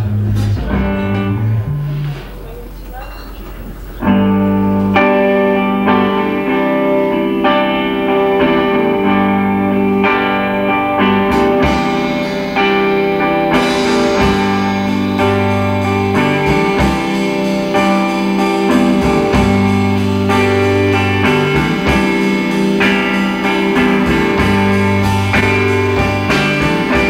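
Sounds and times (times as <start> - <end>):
strummed electric guitar: 0.0 - 2.5, 4.0 - 27.0
bass guitar: 0.0 - 3.0, 3.6 - 27.0
drums and cymbals: 0.0 - 27.0.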